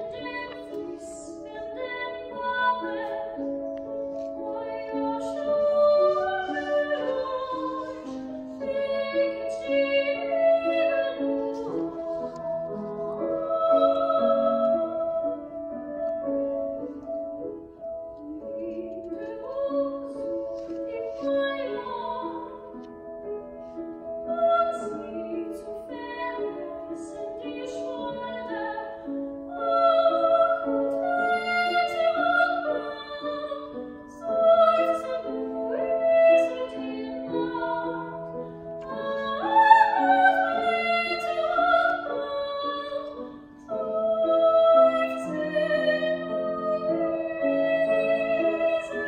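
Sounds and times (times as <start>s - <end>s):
piano chords: 0.0s - 49.0s
soprano singing: 0.0s - 49.0s.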